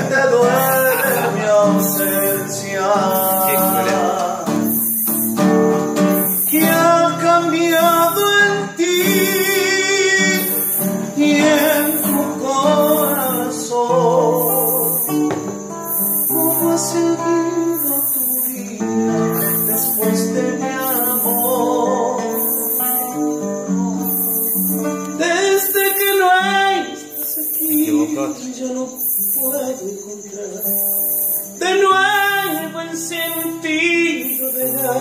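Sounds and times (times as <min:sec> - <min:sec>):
man singing: 0:00.0 - 0:05.1, 0:06.1 - 0:23.5, 0:24.1 - 0:35.0
nylon-string guitar ballad: 0:00.0 - 0:35.0.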